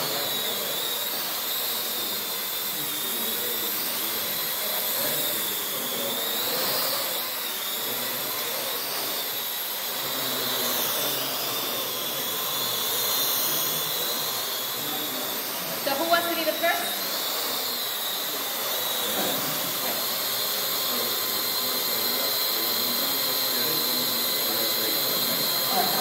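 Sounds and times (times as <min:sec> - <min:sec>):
drone propellers whirring: 0:00.0 - 0:26.0.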